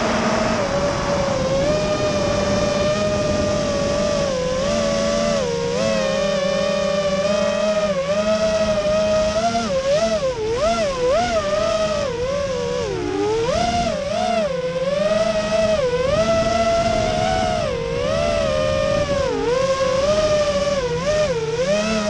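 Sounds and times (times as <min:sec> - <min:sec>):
low motor hum: 0:00.0 - 0:22.0
quadcopter motors whining: 0:00.0 - 0:22.0.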